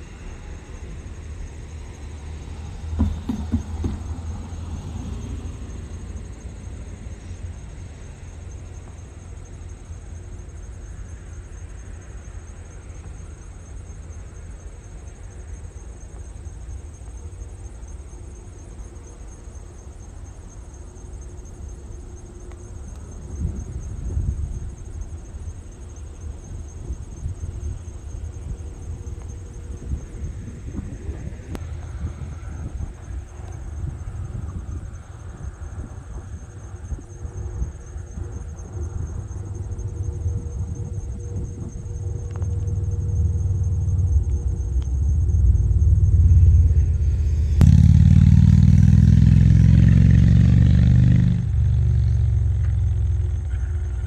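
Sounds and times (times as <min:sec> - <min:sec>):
distant diesel locomotive rumble: 0:00.0 - 0:54.0
insects chirping: 0:00.0 - 0:54.0.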